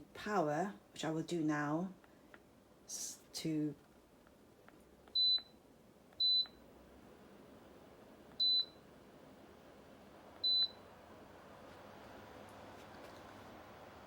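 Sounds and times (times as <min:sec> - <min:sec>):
fan air hiss: 0:00.0 - 0:14.0.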